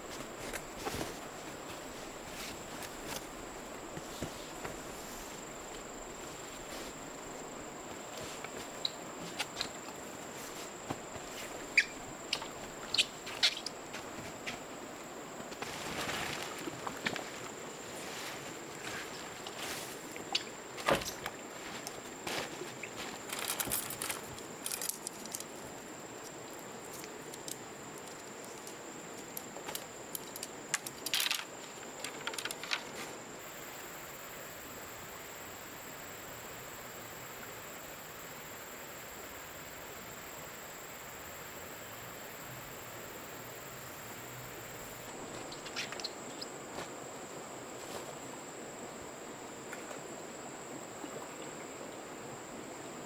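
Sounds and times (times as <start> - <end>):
higher insect chorus: 0.0 - 53.0
insects droning: 0.0 - 53.0.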